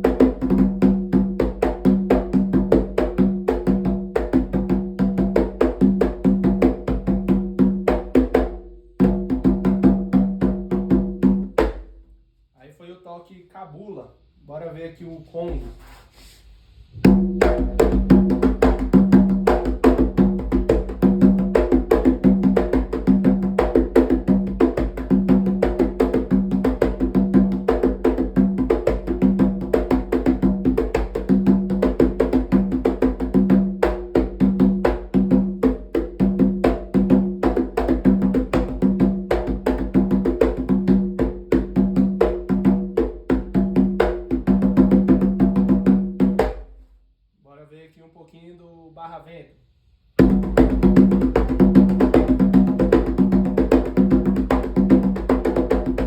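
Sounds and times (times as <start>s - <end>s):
hand drum playing fast rhythm: 0.0s - 12.0s, 17.0s - 46.6s, 50.2s - 56.0s.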